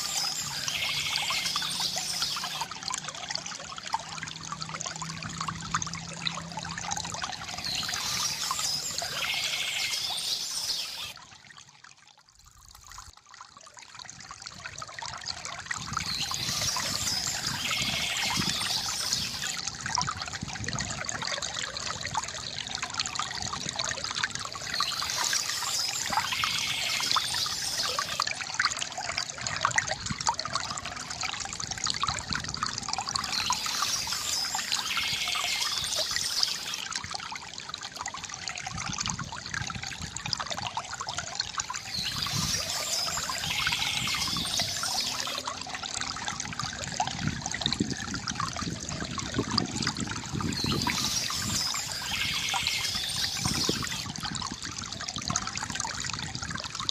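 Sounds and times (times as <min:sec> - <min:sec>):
river water trickling: 0:00.0 - 0:56.9.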